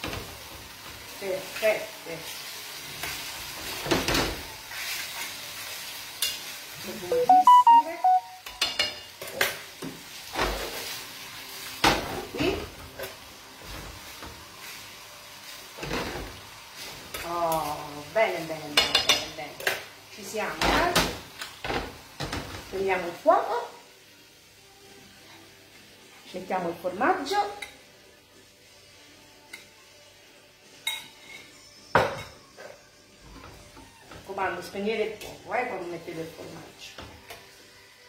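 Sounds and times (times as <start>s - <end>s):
soft sizzle: 0.0s - 38.0s.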